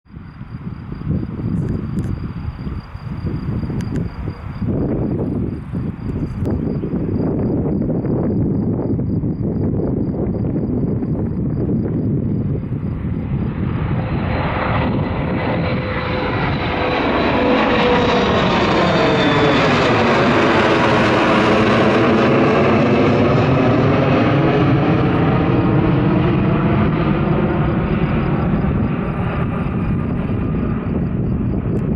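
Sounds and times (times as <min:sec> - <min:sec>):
jet aircraft climbing: 0:00.1 - 0:31.9.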